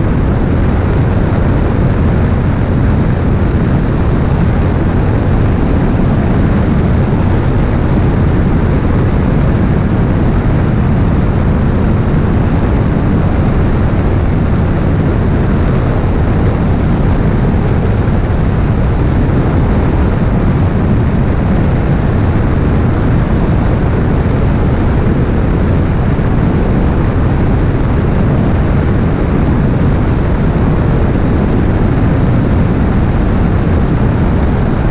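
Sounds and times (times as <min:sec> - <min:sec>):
propeller plane engine in flight: 0:00.0 - 0:34.9.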